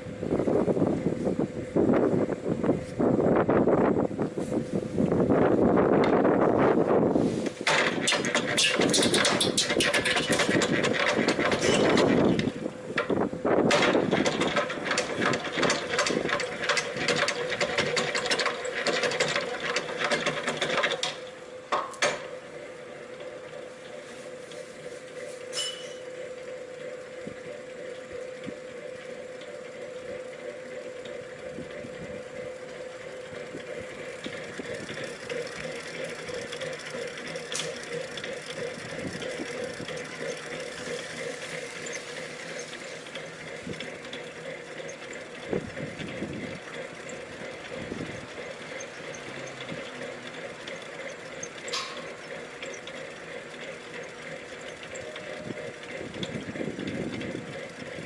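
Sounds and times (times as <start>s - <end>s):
dough mixer whirring: 7.7s - 21.3s, 22.3s - 58.0s.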